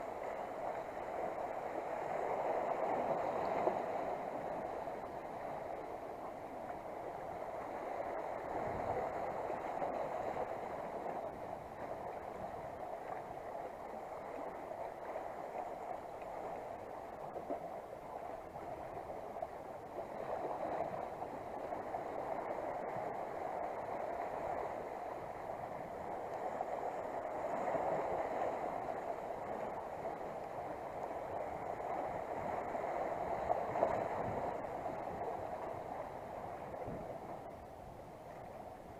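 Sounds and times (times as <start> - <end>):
sea water washing around blocks: 0.0 - 37.5.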